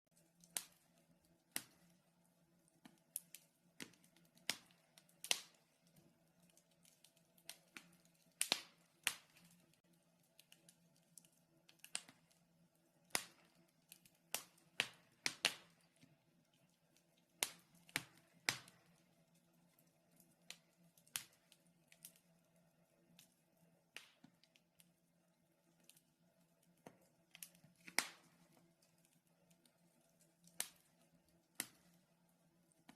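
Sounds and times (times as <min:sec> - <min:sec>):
fire crackling: 0:00.1 - 0:32.9.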